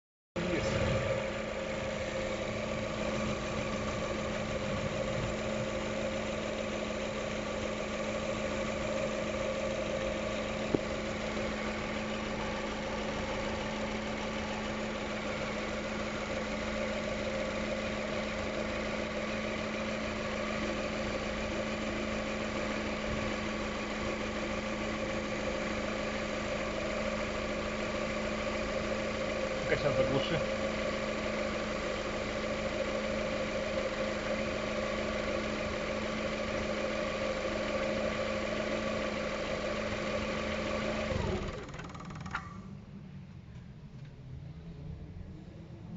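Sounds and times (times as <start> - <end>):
car engine idling: 0.4 - 45.9.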